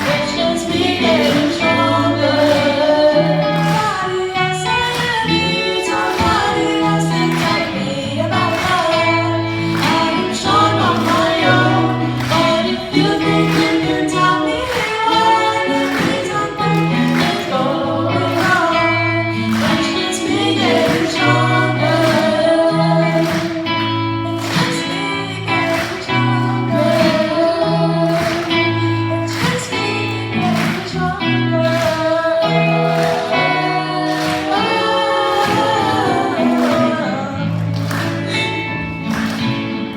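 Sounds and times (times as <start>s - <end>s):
repeating bass line: 0.0s - 39.9s
singing over a beat: 0.0s - 39.9s.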